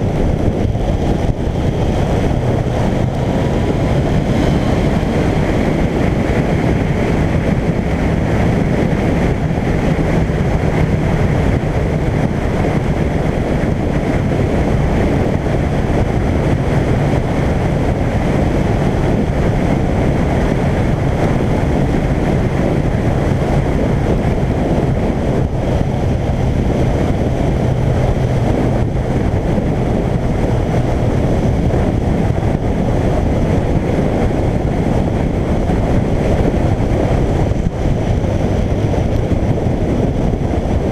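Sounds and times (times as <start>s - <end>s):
motorcycle engine cruising: 0.0s - 40.9s
wind rushing on microphone: 0.0s - 40.9s.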